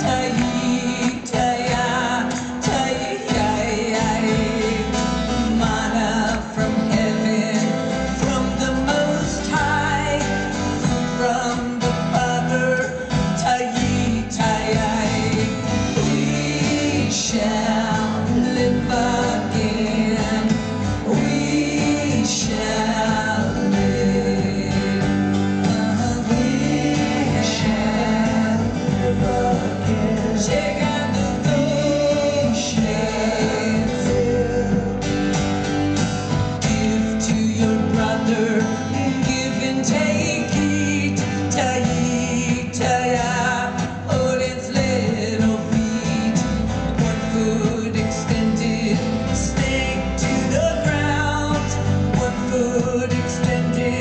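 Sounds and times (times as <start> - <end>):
distant live rock band: 0.0 - 54.0.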